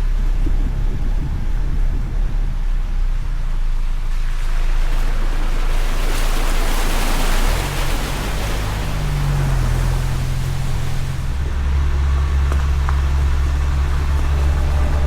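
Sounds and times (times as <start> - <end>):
car engine droning: 0.0 - 15.0
tyre and road noise: 0.0 - 15.0.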